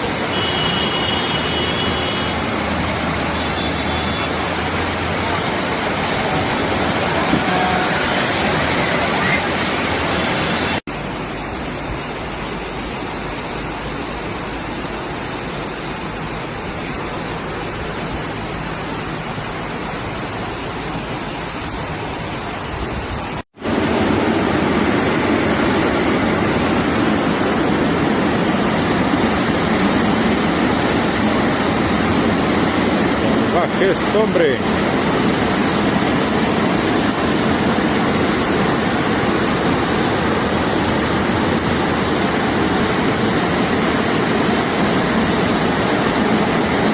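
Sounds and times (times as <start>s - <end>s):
floodwater rushing: 0.0s - 46.9s
heavy rain: 0.0s - 46.9s.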